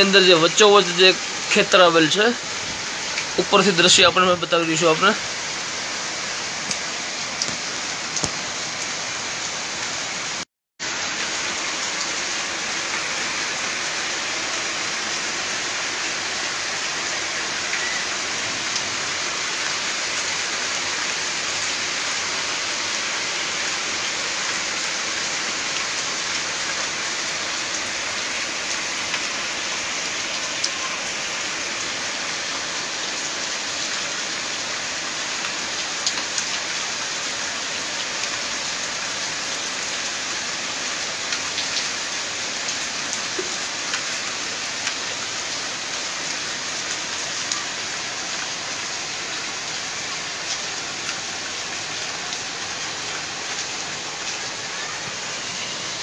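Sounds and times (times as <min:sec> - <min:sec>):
heavy rain on ground and floodwater: 0:00.0 - 0:56.0.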